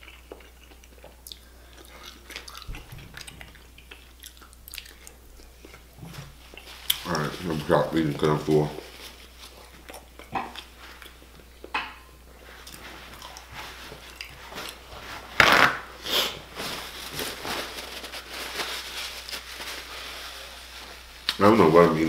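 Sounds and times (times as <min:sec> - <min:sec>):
food wrapping rustling: 0:01.6 - 0:11.5, 0:12.4 - 0:22.0.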